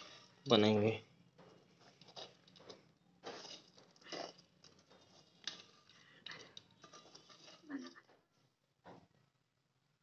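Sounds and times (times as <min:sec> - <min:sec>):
spoon stirring puffed rice in pan: 0:00.0 - 0:09.6.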